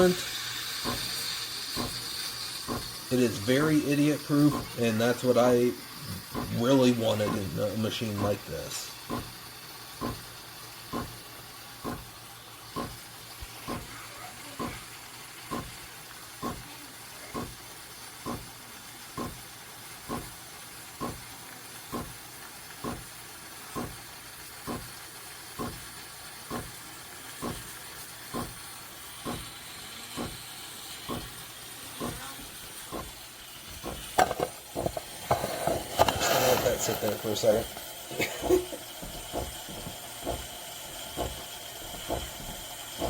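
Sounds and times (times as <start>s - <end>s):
steam wand frothing milk: 0.0s - 43.0s.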